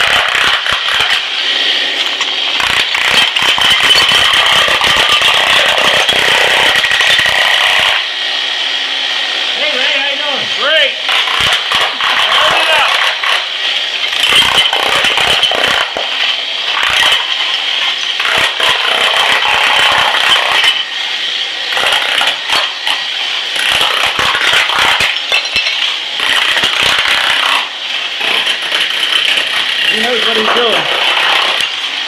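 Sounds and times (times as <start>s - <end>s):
breaking tile pieces clattering: 0.0s - 1.3s, 2.0s - 8.0s, 11.1s - 20.9s, 21.8s - 23.0s, 23.6s - 31.8s
power tool chipping tile: 0.0s - 32.0s.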